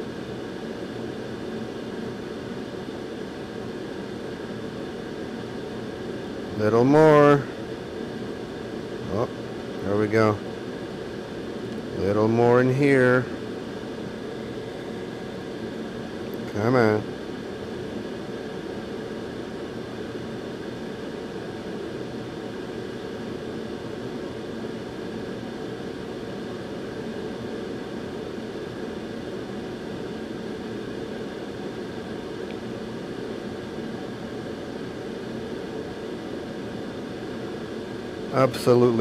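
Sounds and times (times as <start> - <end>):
hot-air station blowing: 0.0 - 39.0.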